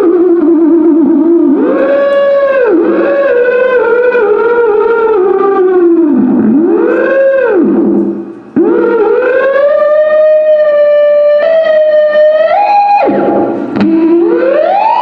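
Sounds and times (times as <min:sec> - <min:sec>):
theremin buzzy tone: 0:00.0 - 0:15.0.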